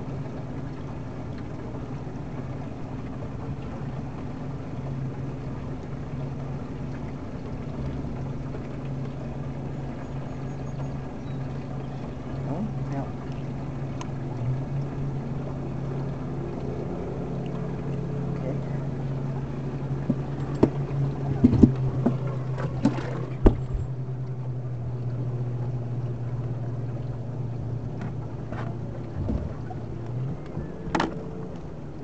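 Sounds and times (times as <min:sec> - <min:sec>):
boat motor running: 0:00.0 - 0:32.0.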